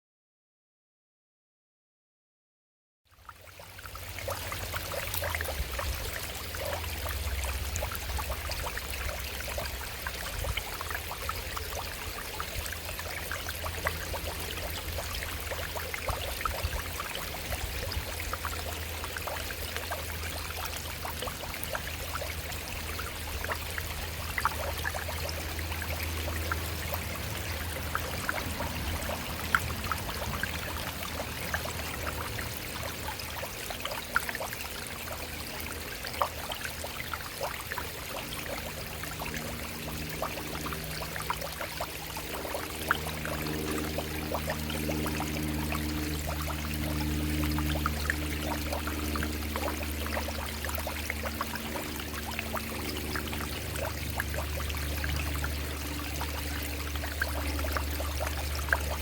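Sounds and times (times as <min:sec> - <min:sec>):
small water splashes and trickles: 0:03.1 - 0:59.0.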